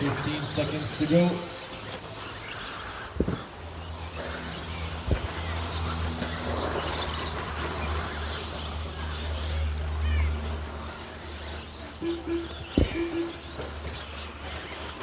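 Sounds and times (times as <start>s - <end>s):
rc trucks racing on dirt: 0.0s - 15.0s.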